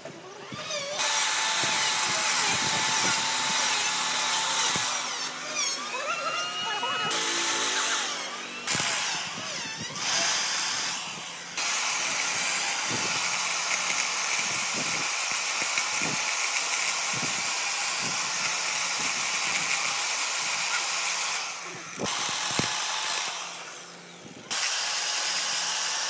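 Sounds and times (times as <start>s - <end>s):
power tools working wood: 0.0s - 26.0s.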